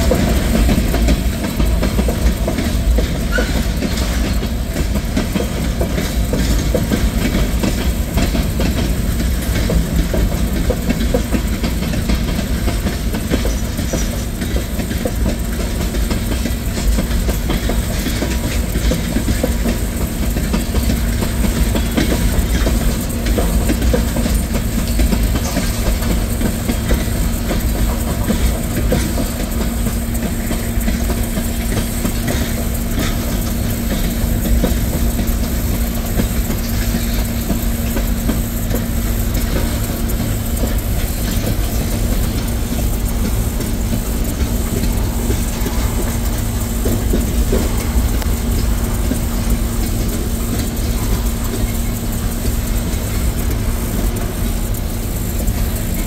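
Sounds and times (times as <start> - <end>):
freight train rolling past: 0.0 - 56.0
wheels clacking over rail joints: 0.0 - 56.0.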